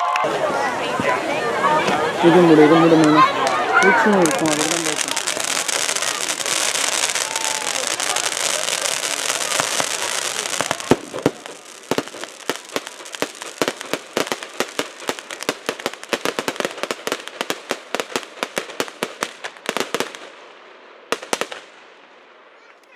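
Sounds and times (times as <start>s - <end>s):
fireworks cracking and popping: 1.8s - 22.1s.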